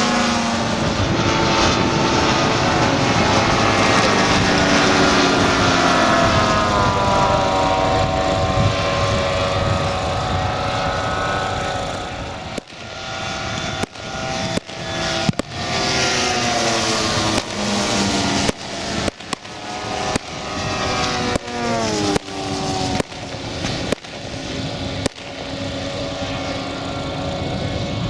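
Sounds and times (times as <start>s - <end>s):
model airplane piston engines: 0.0s - 28.0s
plane passing with falling pitch: 0.0s - 28.0s.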